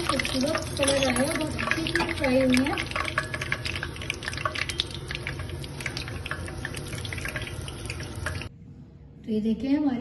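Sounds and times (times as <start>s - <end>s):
frying oil sizzling and popping: 0.0s - 8.5s.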